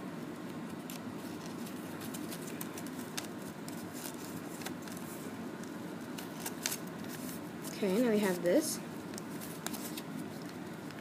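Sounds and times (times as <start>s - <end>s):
low background hum: 0.0s - 11.0s
paper rustling and crinkling: 0.7s - 8.4s, 9.0s - 11.0s.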